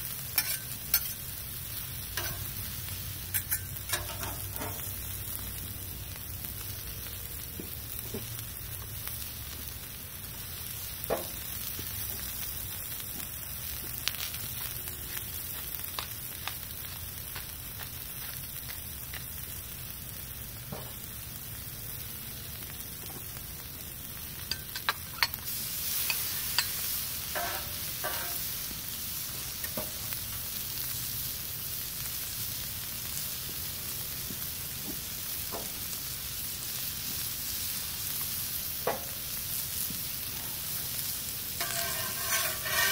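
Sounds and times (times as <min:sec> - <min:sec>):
vegetables sizzling on a griddle: 0:00.0 - 0:42.9.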